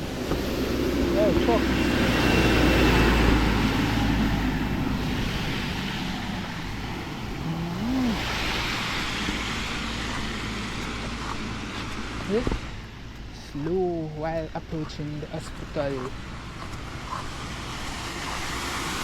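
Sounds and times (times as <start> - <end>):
truck passing on road: 0.0 - 13.0, 14.7 - 19.0.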